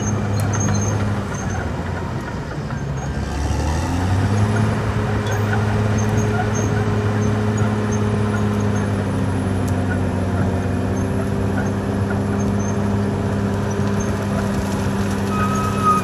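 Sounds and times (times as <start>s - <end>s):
bulldozer engine under load: 0.0s - 16.0s.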